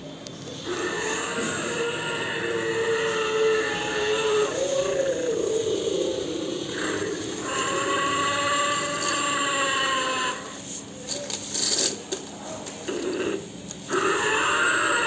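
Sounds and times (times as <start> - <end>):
toy electronic roar: 0.6 - 10.8, 12.9 - 15.0.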